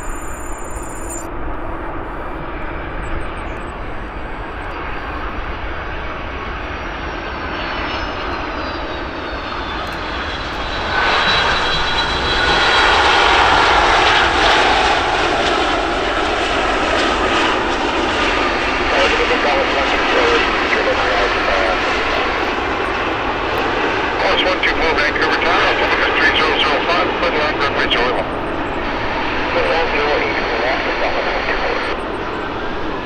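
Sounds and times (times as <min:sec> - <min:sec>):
jet airliner roaring past: 0:00.0 - 0:33.0.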